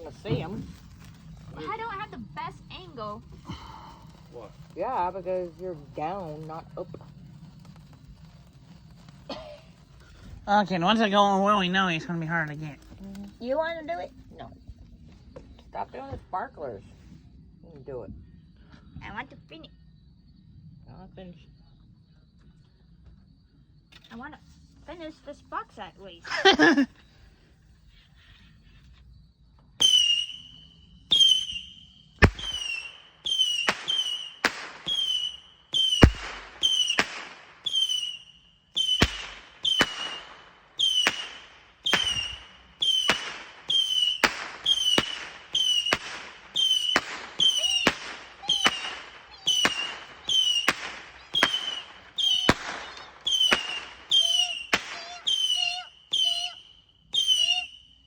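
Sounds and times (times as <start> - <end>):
fireworks bangs with whistles: 0.0 - 17.2, 23.9 - 28.0, 29.6 - 58.0.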